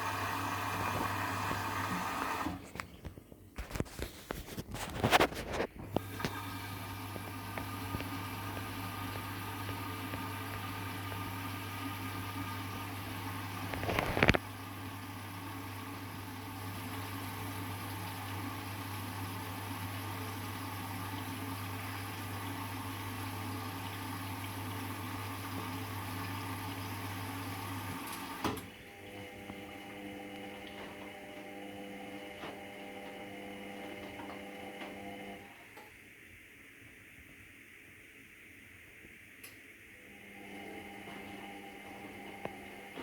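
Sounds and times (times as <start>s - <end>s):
washing machine water rushing in: 0.0s - 2.8s, 5.5s - 38.1s, 39.9s - 43.0s
inlet valve electrical hum: 0.0s - 43.0s.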